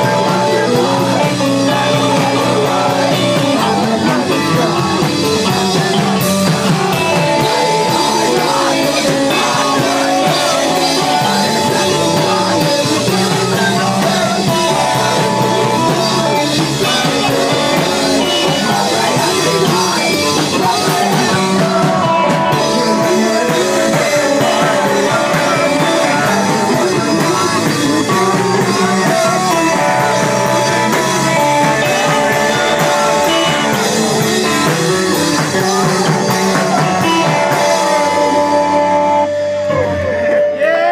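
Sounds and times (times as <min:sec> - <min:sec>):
bass guitar: 0:00.0 - 0:40.9
drum kit: 0:00.0 - 0:40.9
electric guitars: 0:00.0 - 0:40.9
person singing: 0:00.0 - 0:40.9.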